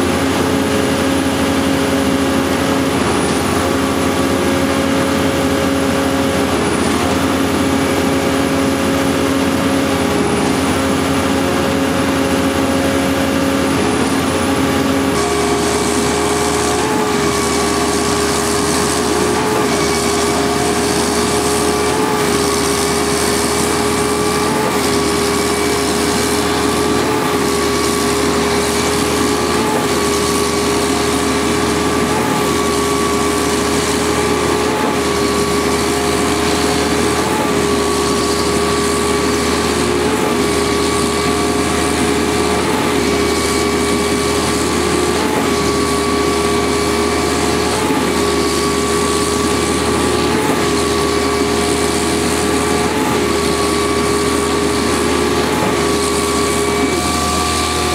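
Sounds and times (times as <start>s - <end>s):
concrete pump engine drone: 0.0s - 57.9s.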